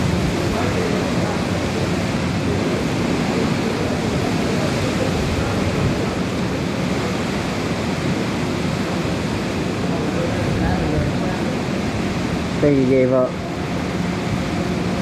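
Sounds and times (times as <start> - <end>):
hurricane wind blowing: 0.0 - 15.0.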